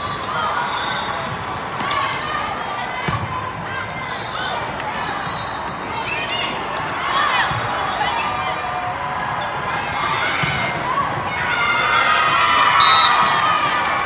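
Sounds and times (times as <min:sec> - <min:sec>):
spectators talking: 0:00.0 - 0:14.0.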